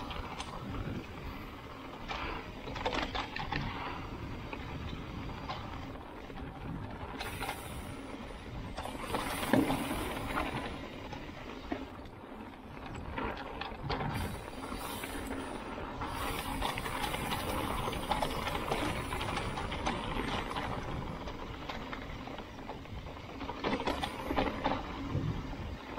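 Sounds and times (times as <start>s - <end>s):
bike rattling over bumps: 0.0s - 25.9s
bike tyres rolling on dirt: 0.0s - 25.9s.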